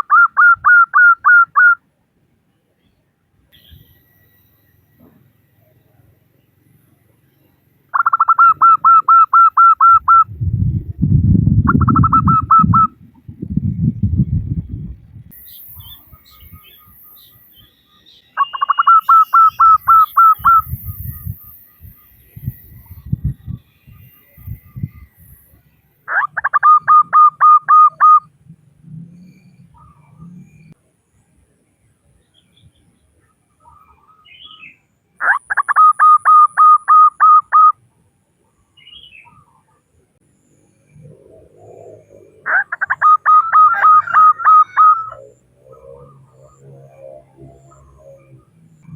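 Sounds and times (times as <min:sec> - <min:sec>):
faint small bird chirps: 0:00.0 - 0:10.9, 0:13.9 - 0:31.5, 0:32.1 - 0:48.9.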